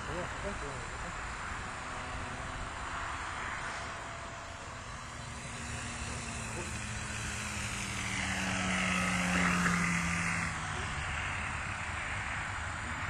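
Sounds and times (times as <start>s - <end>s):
model aircraft motor droning: 0.0s - 13.0s.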